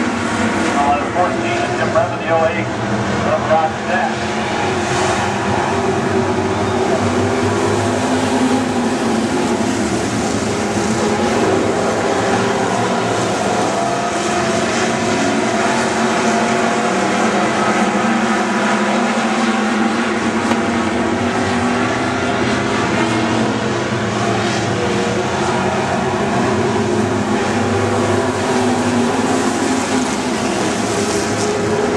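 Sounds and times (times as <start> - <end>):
racing car engines droning: 0.0 - 31.9.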